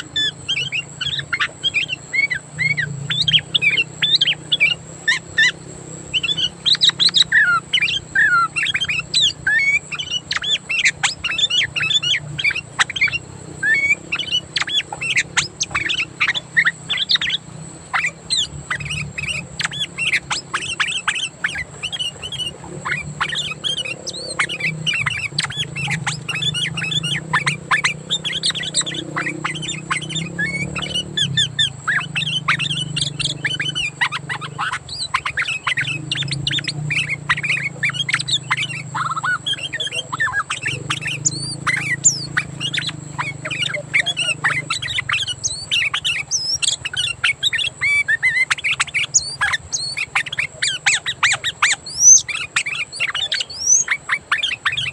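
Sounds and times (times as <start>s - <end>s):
bulbuls chirping and whistling: 0.0s - 54.9s
low steady hum: 0.0s - 54.9s.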